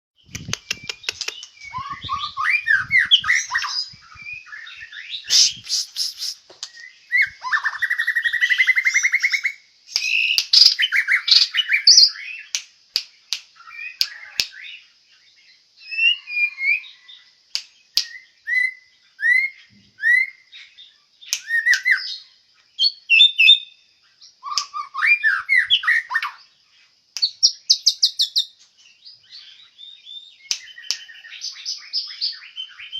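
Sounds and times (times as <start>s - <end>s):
bird singing whistled song: 0.2s - 17.2s, 17.8s - 26.6s, 27.2s - 32.9s.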